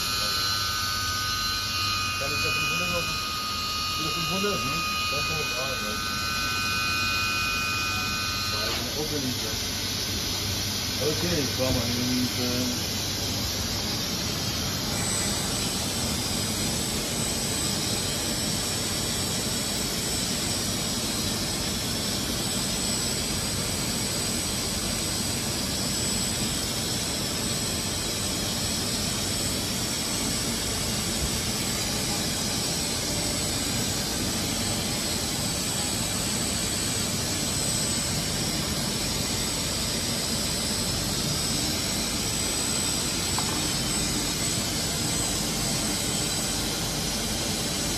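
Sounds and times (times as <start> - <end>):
high machine whine: 0.0 - 47.9.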